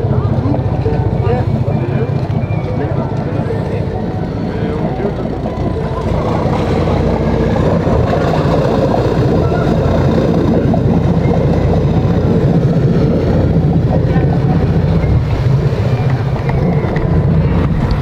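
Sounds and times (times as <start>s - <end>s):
motorboat engines running: 0.0s - 18.0s
propellers churning water: 0.0s - 18.0s.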